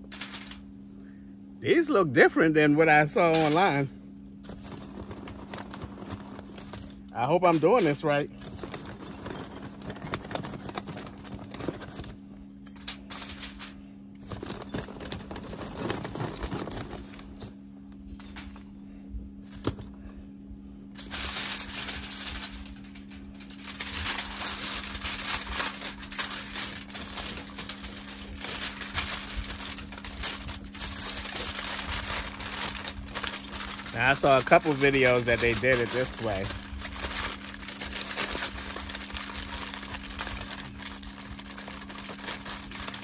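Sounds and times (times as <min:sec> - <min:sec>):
foil crinkling: 0:00.0 - 0:00.6, 0:02.9 - 0:18.7, 0:21.0 - 0:43.0
wood chips clicking onto foil: 0:00.0 - 0:00.6, 0:03.2 - 0:03.9, 0:04.5 - 0:17.5, 0:21.0 - 0:43.0.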